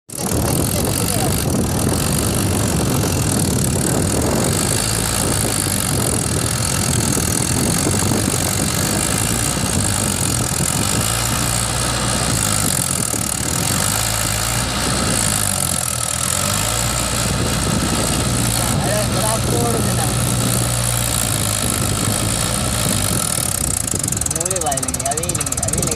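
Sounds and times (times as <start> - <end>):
diesel engine running: 0.1 - 25.9.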